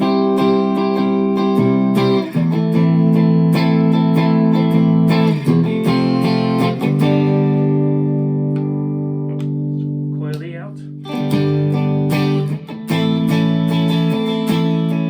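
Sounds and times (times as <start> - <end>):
electric guitar playing chords: 0.0 - 15.0.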